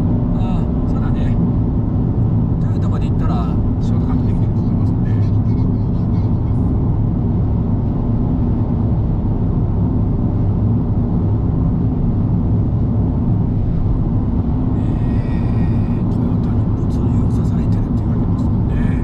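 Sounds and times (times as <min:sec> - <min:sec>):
car road rumble from inside: 0:00.0 - 0:19.0.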